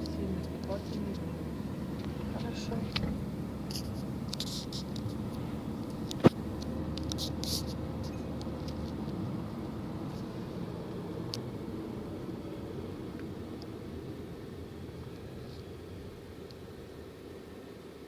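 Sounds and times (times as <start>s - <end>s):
car driving rumble: 0.0s - 17.7s.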